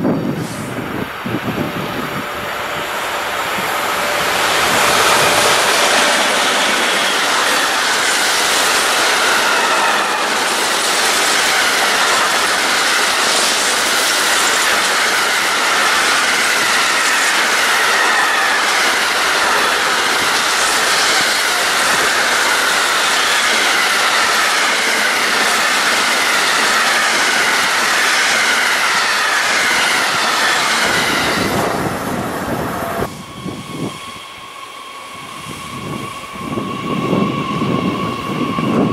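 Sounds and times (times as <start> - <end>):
train passing at speed: 0.0 - 38.9.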